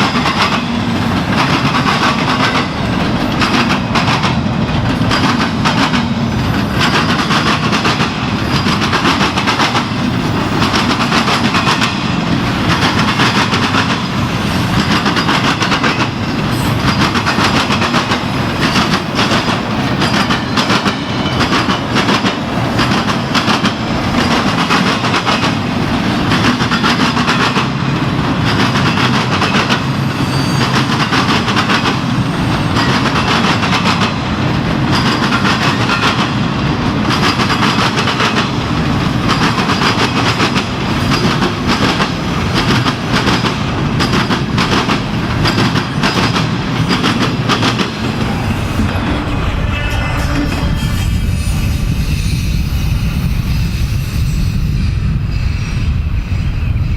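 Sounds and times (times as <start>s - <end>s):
clickety-clack over rail joints: 0.0s - 49.4s
train wheels rumbling on rail: 0.0s - 56.9s.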